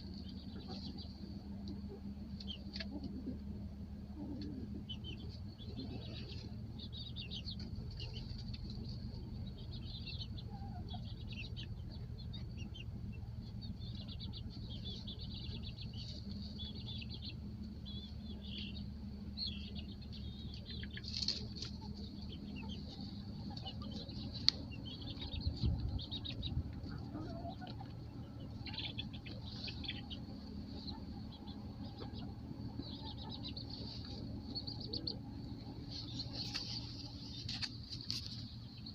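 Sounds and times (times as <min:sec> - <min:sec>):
baby chicks peeping: 0:00.0 - 0:38.9
steady low hum: 0:00.0 - 0:38.9.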